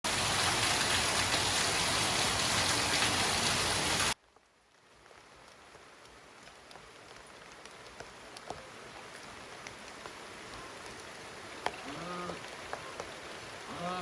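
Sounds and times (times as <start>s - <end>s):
heavy rain: 0.0s - 14.0s
faint patter and drips: 0.2s - 14.0s.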